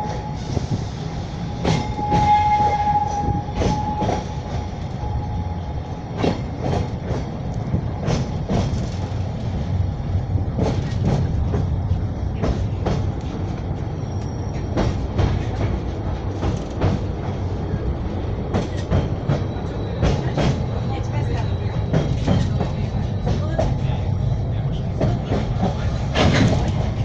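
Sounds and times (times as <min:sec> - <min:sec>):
train rumbling on rails: 0:00.0 - 0:27.0.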